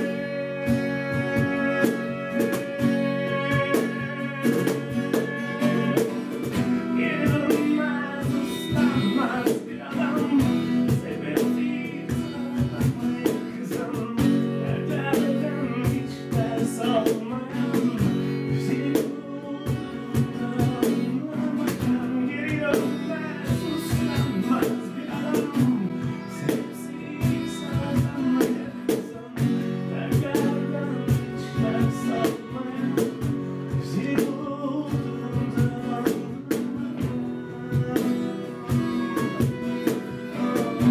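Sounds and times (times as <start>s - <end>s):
violin melody: 0.0s - 13.7s, 14.4s - 40.9s
acoustic guitar: 0.0s - 40.9s
cajon beating: 0.0s - 40.9s.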